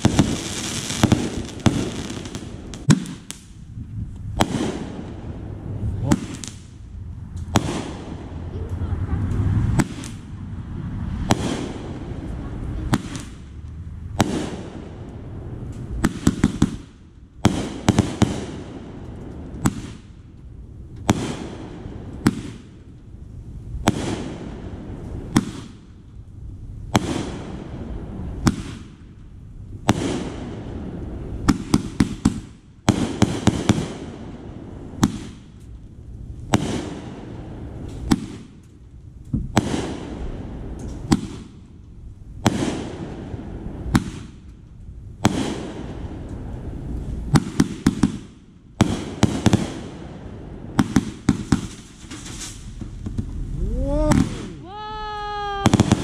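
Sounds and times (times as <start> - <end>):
crackling firework pops: 0.0 - 5.2, 6.0 - 10.3, 11.2 - 23.0, 23.8 - 26.3, 26.9 - 54.8, 55.5 - 56.0
firework bangs: 0.0 - 20.3, 21.0 - 23.0, 23.8 - 26.0, 26.8 - 29.2, 29.8 - 35.6, 36.4 - 41.8, 42.4 - 44.5, 45.2 - 56.0.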